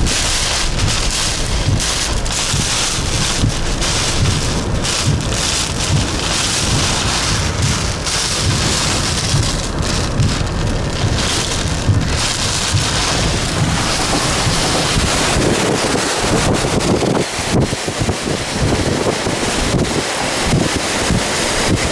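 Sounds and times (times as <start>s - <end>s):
heavy rain: 0.0s - 21.9s
hurricane wind roaring: 0.0s - 21.9s
wind buffeting microphone: 0.0s - 21.9s.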